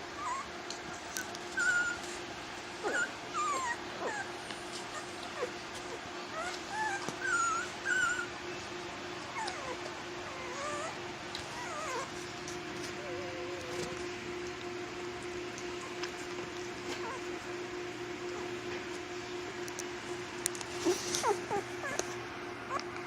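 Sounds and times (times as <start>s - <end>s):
puppies whimpering and squealing: 0.0s - 14.4s, 15.3s - 17.6s, 20.6s - 23.0s.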